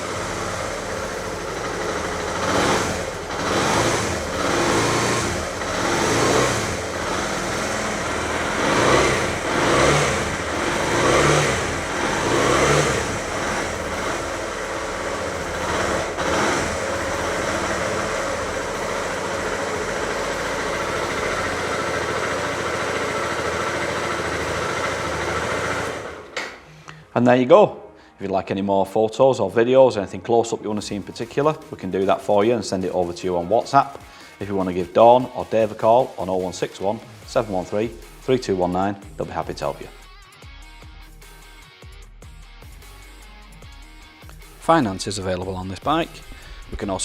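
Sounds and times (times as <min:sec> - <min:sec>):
motorcycle engine revving and idling: 0:00.0 - 0:26.4, 0:30.8 - 0:41.5, 0:42.3 - 0:47.0.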